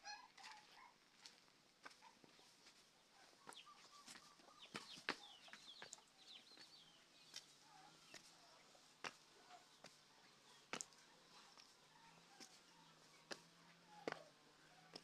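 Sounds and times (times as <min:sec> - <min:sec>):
faint bird chirps: 0:02.4 - 0:15.0.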